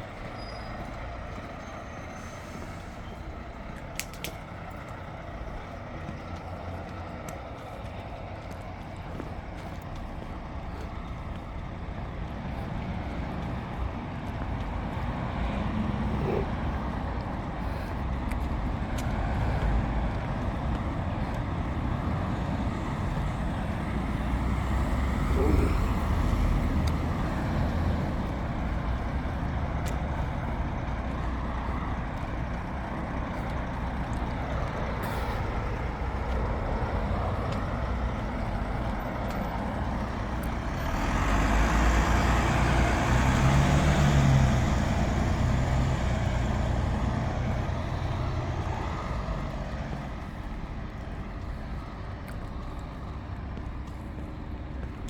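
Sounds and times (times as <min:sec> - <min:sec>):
heavy vehicle engine drone: 0:00.0 - 0:55.0
road traffic passing: 0:00.0 - 0:55.0.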